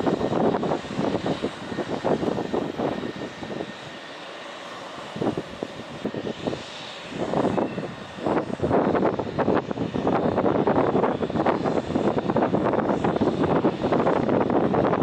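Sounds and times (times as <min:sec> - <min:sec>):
helicopter rotor chopping: 0:00.0 - 0:15.0
turbine engine whine: 0:00.0 - 0:15.0.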